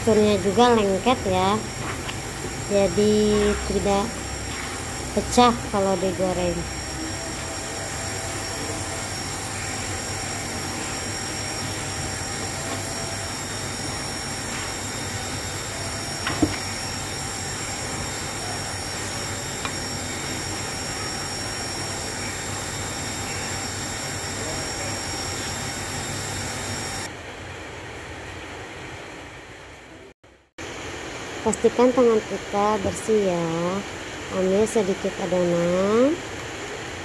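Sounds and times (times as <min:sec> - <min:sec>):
background hum and hiss: 0:00.0 - 0:37.0.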